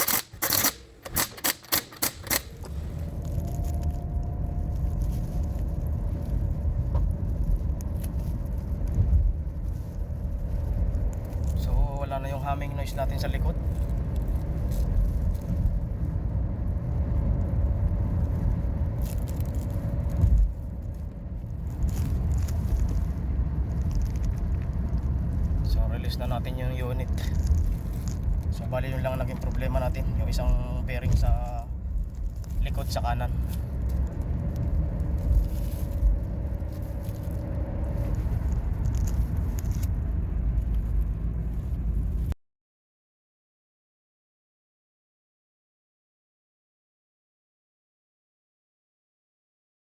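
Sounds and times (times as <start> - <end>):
road and tyre rumble: 0.0 - 42.4.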